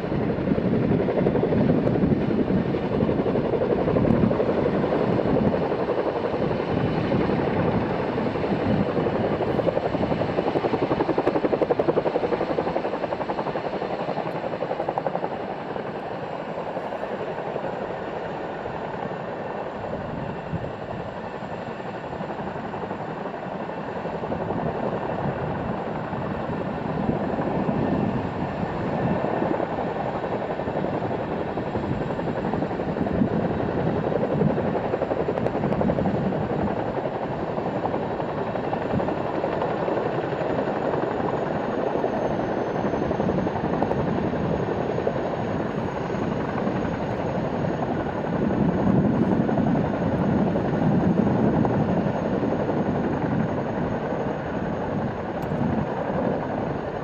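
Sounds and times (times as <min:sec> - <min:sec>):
helicopter rotor and engine: 0:00.0 - 0:57.0
high turbine whine: 0:00.0 - 0:57.0.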